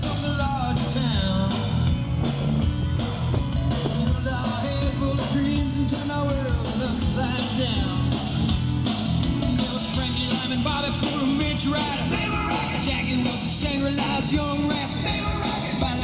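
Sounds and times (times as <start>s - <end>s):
loud music with singing: 0.0s - 16.0s.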